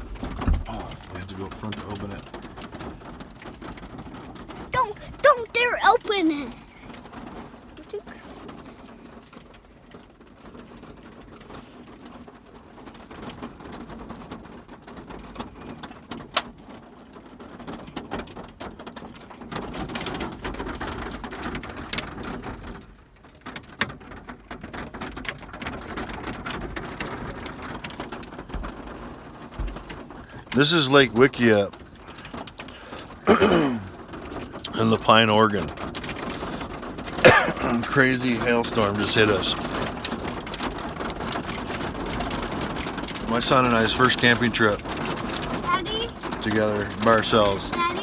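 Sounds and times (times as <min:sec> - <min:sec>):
hail and rain on car roof: 0:00.0 - 0:48.0.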